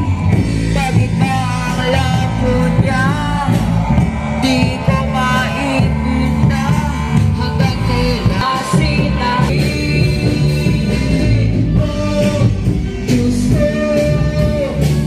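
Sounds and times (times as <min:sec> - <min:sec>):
bass line: 0:00.0 - 0:15.0
drum kit: 0:00.0 - 0:15.0
electric guitars: 0:00.0 - 0:15.0
person singing: 0:00.0 - 0:15.0.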